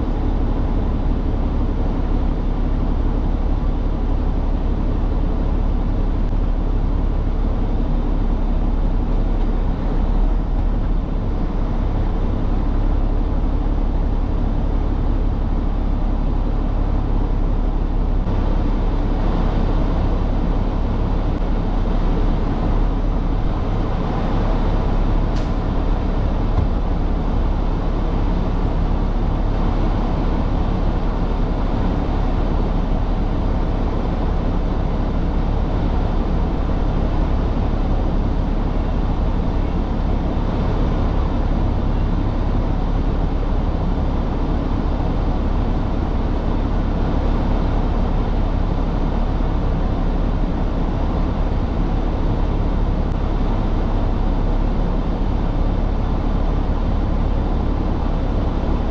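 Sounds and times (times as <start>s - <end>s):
heavy truck engine drone: 0.0s - 58.9s
road noise: 0.0s - 58.9s.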